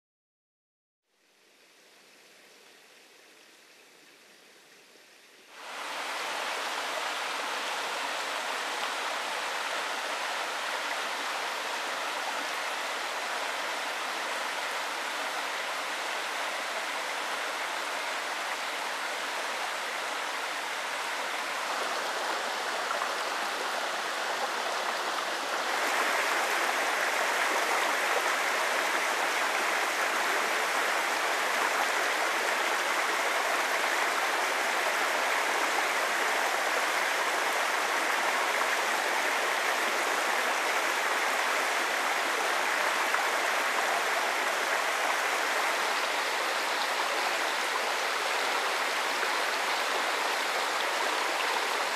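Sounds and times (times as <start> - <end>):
stream flowing over stones: 1.7 - 51.9.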